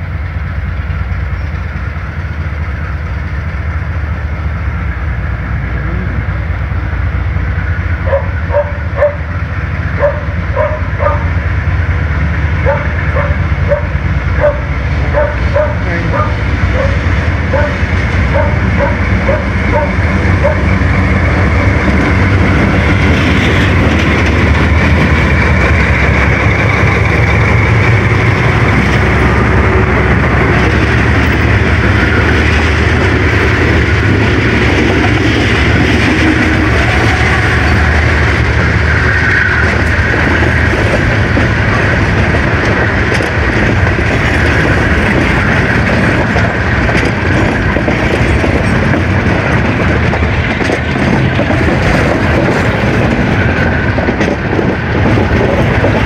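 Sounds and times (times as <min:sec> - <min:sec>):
diesel locomotive engine rumble: 0:00.0 - 0:56.0
freight wagons rolling on rails: 0:08.0 - 0:56.0.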